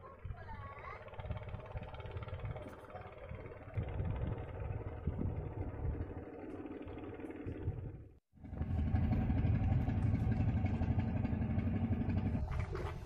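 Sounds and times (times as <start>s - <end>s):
small engine running: 0.5s - 13.0s.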